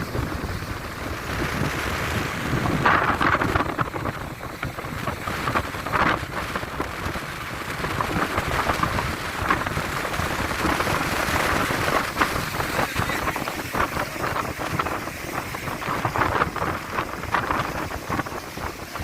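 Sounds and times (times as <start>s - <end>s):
heavy wind buffeting microphone: 0.0s - 19.0s.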